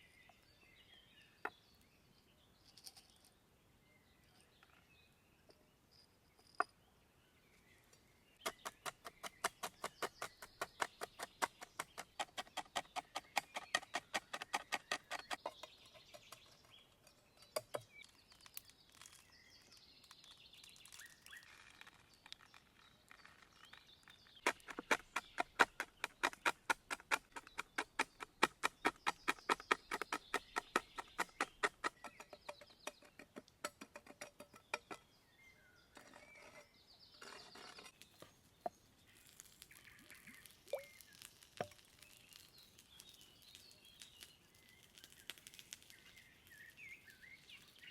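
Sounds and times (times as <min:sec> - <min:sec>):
birds chirping faintly: 0:00.0 - 0:47.9.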